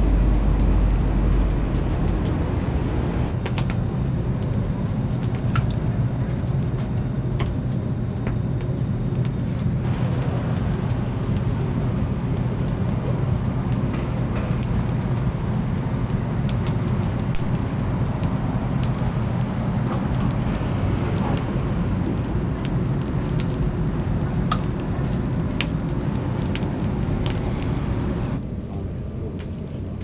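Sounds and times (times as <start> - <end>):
firewood crackling and popping: 0.0 - 28.6
low fire rumble: 0.0 - 30.0.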